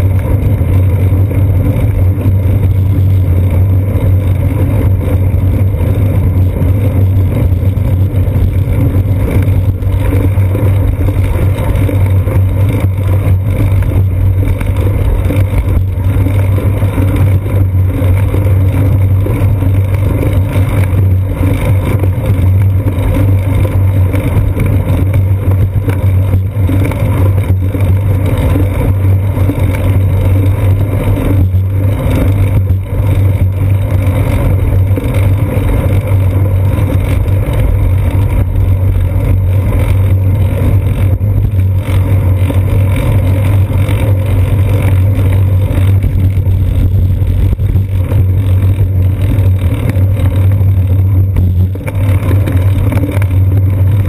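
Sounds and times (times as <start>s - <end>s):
bicycle road vibration rumble: 0.0s - 54.0s
wind noise: 0.0s - 54.0s.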